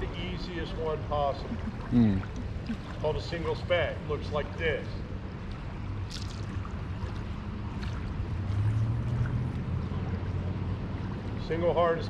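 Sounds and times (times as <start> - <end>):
river water: 0.0 - 12.0
road traffic rumble: 0.0 - 12.0
vehicle passing: 0.0 - 12.0
wind: 0.0 - 12.0.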